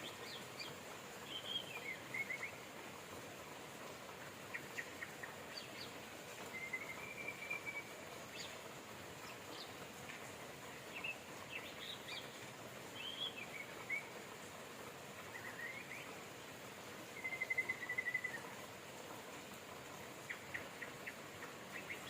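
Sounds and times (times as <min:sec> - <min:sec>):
rain hiss: 0:00.0 - 0:22.0
songbirds calling: 0:00.0 - 0:22.0.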